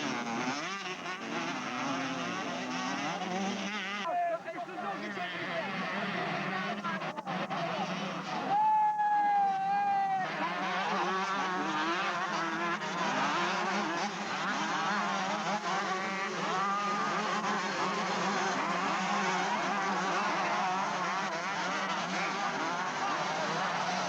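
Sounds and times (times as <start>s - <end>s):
motocross motorcycles revving: 0.0s - 8.7s, 9.4s - 24.0s.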